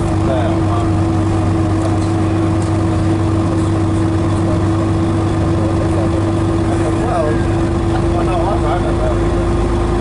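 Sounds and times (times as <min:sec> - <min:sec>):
diesel bus engine humming: 0:00.0 - 0:10.0
high engine whine: 0:00.0 - 0:10.0.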